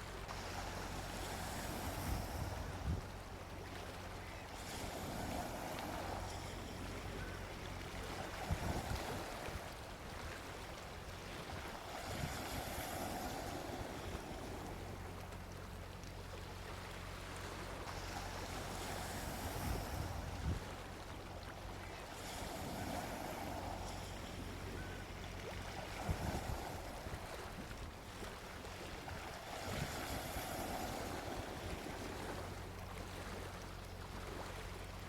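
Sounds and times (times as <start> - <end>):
sea waves washing onto beach: 0.0 - 35.0
steady low hum: 0.0 - 35.0.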